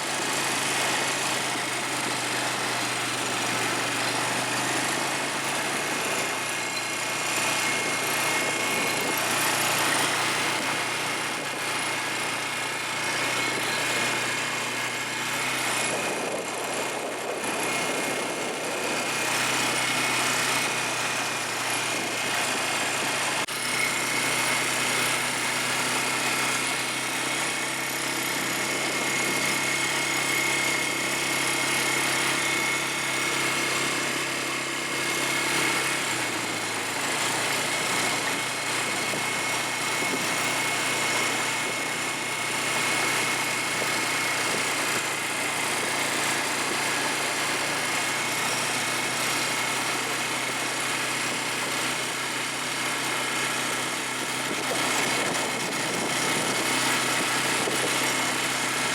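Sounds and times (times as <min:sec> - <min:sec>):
atv engine running: 0:00.0 - 0:58.9
constant high whine: 0:00.0 - 0:58.9.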